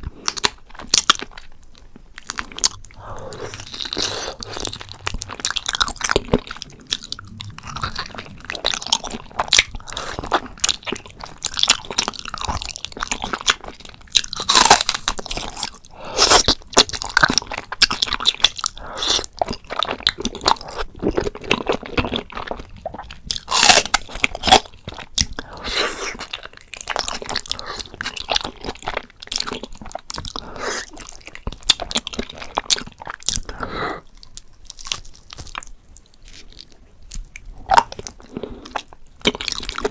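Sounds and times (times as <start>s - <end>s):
close-miked biting and chewing: 0.0s - 39.9s
crackling while eating: 0.0s - 39.9s.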